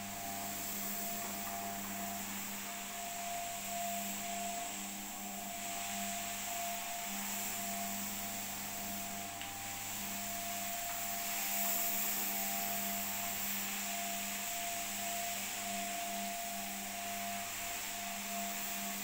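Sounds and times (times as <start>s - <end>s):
floor scrubber motor whine: 0.0s - 19.0s.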